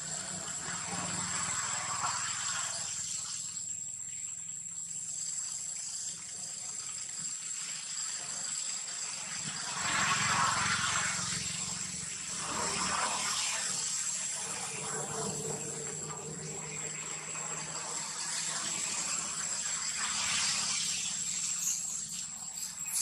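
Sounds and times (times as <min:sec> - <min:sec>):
distant engine hum: 0:00.0 - 0:07.3, 0:08.0 - 0:23.0
high-pitched insect drone: 0:00.0 - 0:23.0.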